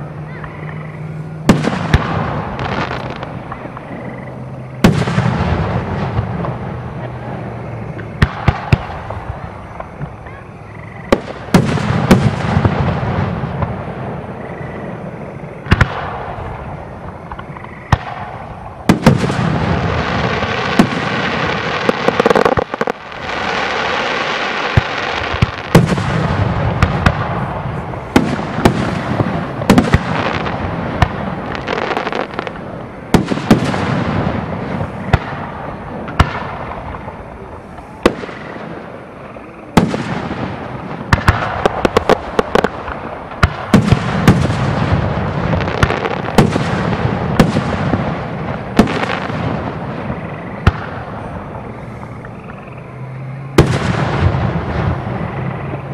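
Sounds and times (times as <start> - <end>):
fireworks bangs: 0.0 - 55.9
fireworks crackling hiss: 0.0 - 55.9.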